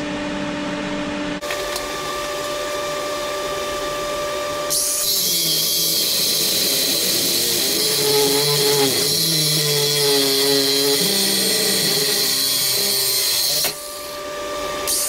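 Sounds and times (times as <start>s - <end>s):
angle grinder motor whine: 1.4s - 15.0s.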